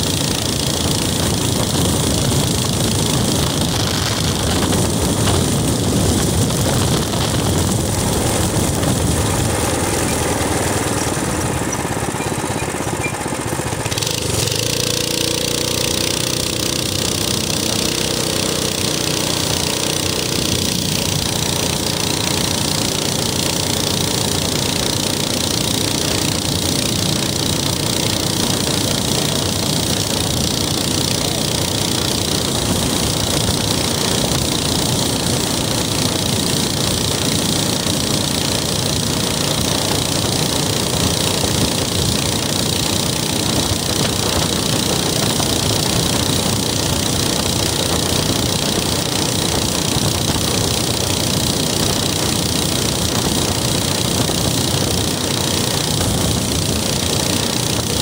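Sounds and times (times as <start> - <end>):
wind noise on microphone: 0.0 - 14.5, 19.4 - 58.0
small engine running: 0.0 - 58.0.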